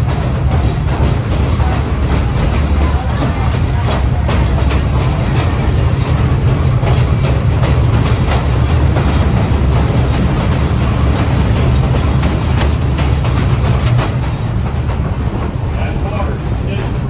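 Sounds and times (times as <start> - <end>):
train car rumbling: 0.0 - 17.0
wheels clattering over rails: 0.0 - 17.0.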